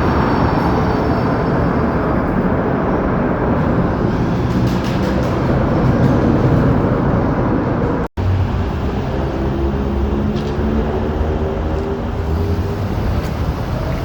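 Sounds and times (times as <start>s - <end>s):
passing traffic hum: 0.0s - 14.0s.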